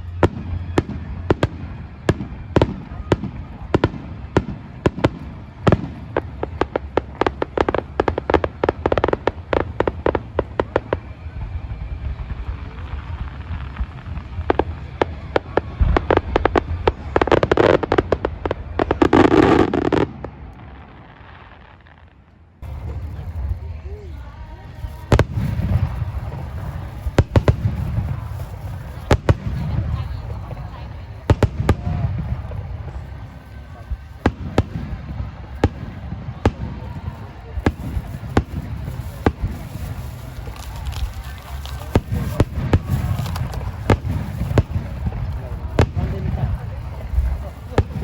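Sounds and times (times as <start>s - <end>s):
low rumble: 0.0s - 21.7s, 22.3s - 48.0s
fireworks bangs and crackling: 0.0s - 48.0s.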